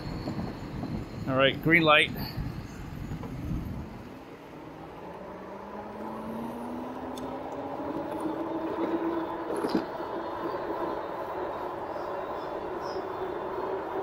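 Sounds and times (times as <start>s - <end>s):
wind: 0.0s - 14.0s
electric bike motor whining: 2.3s - 14.0s.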